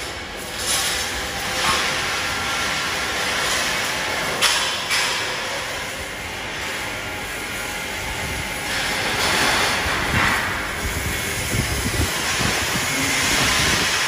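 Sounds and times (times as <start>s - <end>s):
welding hiss and crackle: 0.0s - 14.0s.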